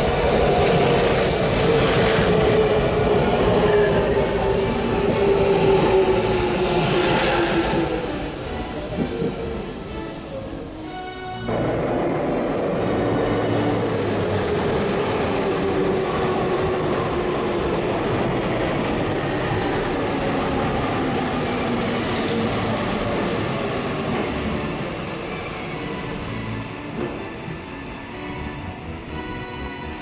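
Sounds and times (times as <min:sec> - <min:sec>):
train rushing past on rails: 0:00.0 - 0:30.0.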